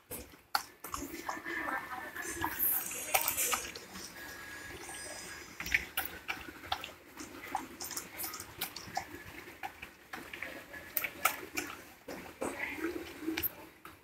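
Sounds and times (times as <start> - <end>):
dog eating wet food: 0.0 - 13.7.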